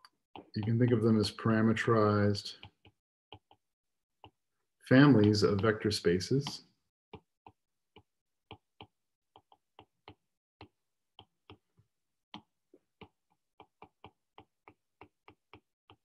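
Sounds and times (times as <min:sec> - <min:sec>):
stylus tapping tablet screen: 0:00.0 - 0:16.0.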